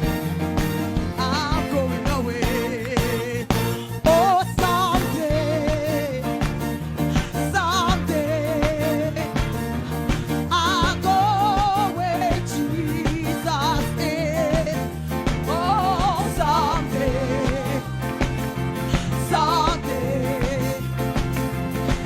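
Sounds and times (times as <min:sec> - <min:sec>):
bass line: 0:00.0 - 0:22.0
drumbeat: 0:00.0 - 0:22.0
person singing gospel with vibrato: 0:00.0 - 0:22.0.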